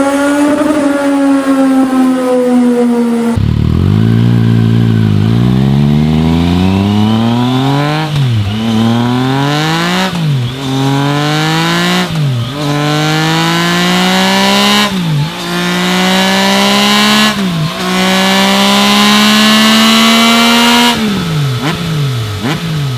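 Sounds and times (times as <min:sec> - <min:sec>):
motorcycle engine accelerating through gears: 0:00.0 - 0:22.9.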